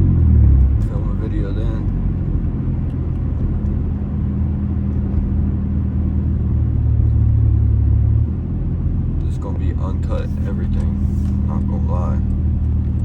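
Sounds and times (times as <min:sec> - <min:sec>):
car engine and exhaust droning: 0:00.0 - 0:13.0.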